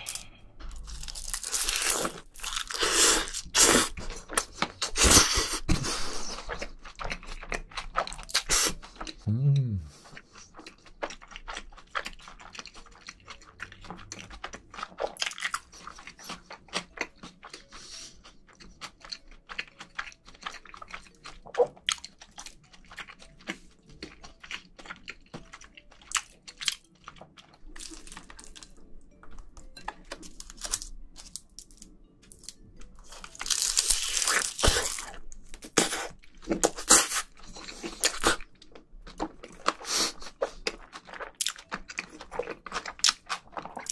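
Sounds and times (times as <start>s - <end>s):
close chewing with wet smacks: 2.6s - 9.3s, 10.0s - 30.4s, 34.1s - 43.9s.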